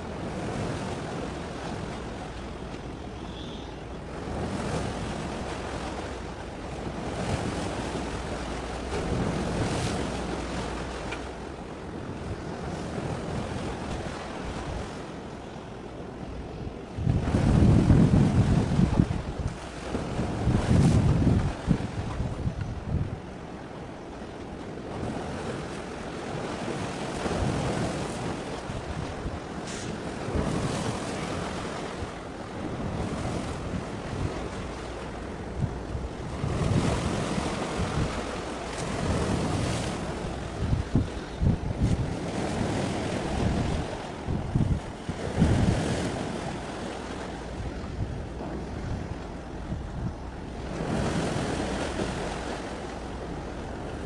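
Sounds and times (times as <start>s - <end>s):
sea waves washing in: 0.0s - 54.0s
wind rumbling on microphone: 0.0s - 54.0s.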